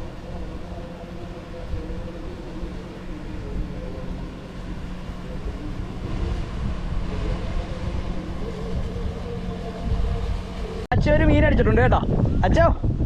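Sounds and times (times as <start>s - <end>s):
motor humming: 0.0s - 10.9s
wind rumbling on microphone: 0.0s - 13.0s.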